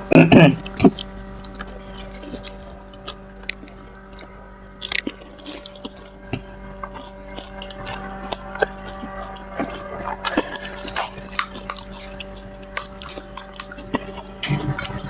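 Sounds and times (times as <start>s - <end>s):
electrical hum: 0.0s - 15.0s
person chewing crunchy food: 0.0s - 15.0s.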